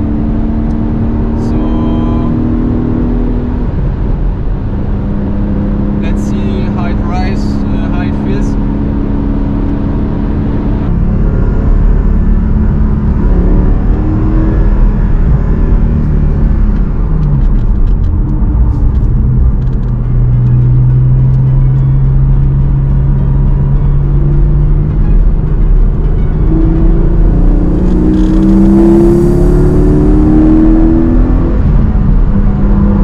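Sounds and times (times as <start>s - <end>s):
car engine running while driving: 0.0s - 33.0s.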